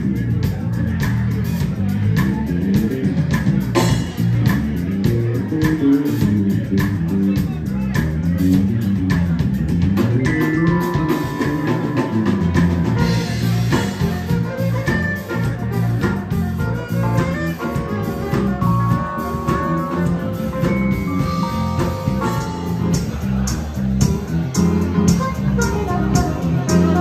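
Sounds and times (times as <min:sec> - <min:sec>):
drum kit: 0:00.0 - 0:27.0
electric bass line: 0:00.0 - 0:27.0
keyboard melody: 0:00.0 - 0:27.0.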